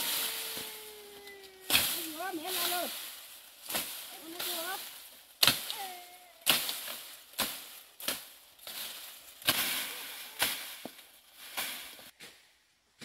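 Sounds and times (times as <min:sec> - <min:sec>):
rustle of falling stalks: 0:00.0 - 0:13.0
blade chopping through grass: 0:01.7 - 0:12.2.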